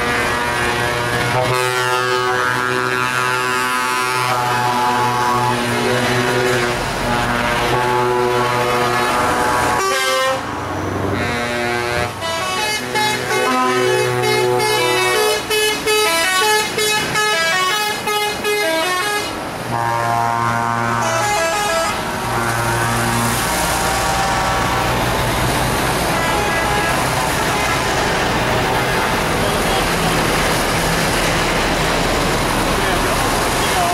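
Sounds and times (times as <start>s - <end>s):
truck air horns blasting: 0.0s - 33.9s.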